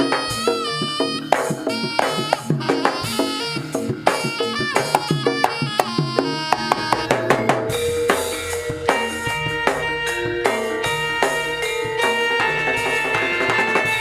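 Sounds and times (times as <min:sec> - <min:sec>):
drums and metal percussion: 0:00.0 - 0:14.0
long held tones: 0:00.0 - 0:14.0.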